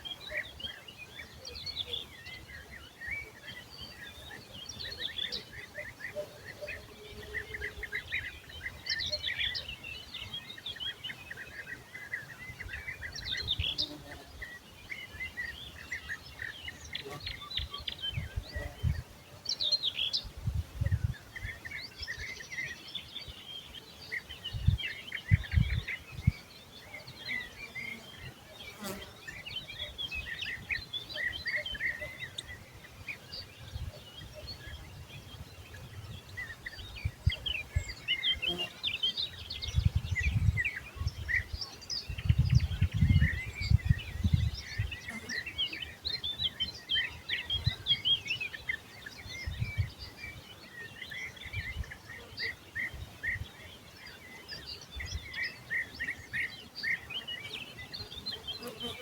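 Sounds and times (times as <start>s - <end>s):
bird chorus chirps and trills: 0.0s - 59.0s.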